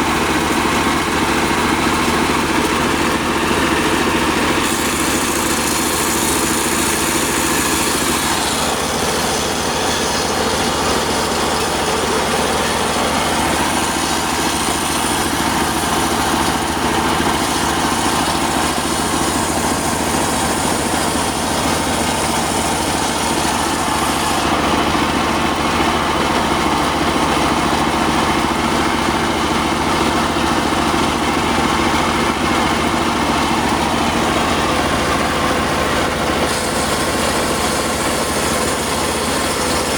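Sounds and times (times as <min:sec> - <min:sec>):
circular saw machine droning: 0:00.0 - 0:39.9.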